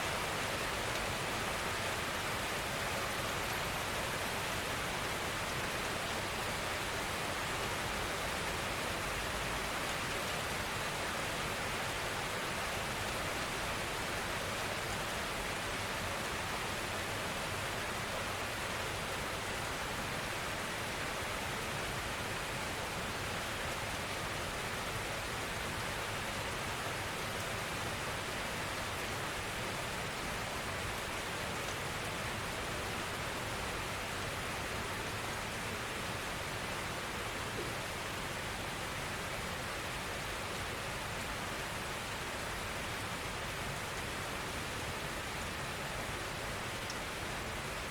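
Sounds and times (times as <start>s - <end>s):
steady rainfall hiss: 0.0s - 47.9s.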